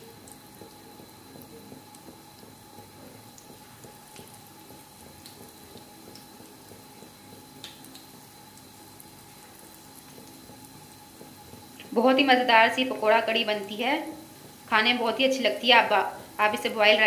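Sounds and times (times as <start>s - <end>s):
fritters sizzling in hot oil: 0.0s - 17.0s.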